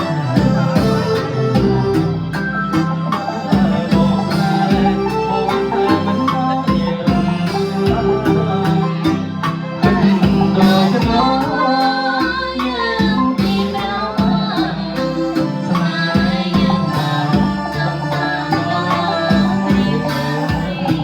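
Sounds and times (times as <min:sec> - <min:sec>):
live band playing: 0:00.0 - 0:21.0
person singing: 0:00.0 - 0:21.0
steady drum beat: 0:00.0 - 0:21.0.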